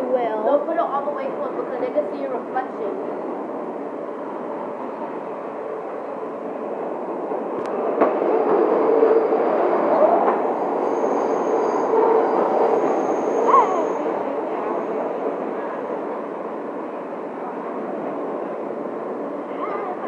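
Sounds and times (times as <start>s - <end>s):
subway train wheels and motors rumbling: 0.0s - 20.0s.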